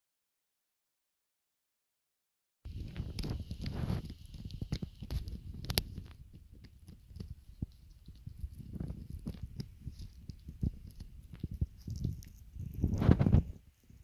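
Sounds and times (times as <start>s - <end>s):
puppy teeth gnawing a chew: 2.7s - 14.0s.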